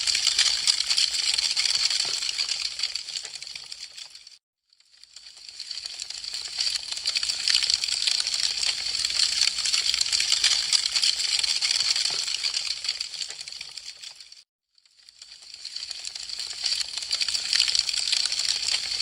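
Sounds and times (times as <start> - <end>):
wood fire crackling: 0.0 - 4.3, 5.3 - 14.3, 15.2 - 19.0.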